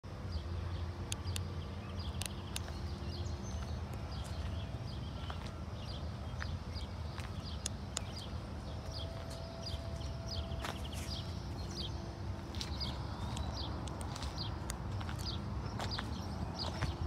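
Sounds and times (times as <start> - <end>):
steady low hum: 0.1 - 17.0
footsteps on asphalt: 2.0 - 17.0.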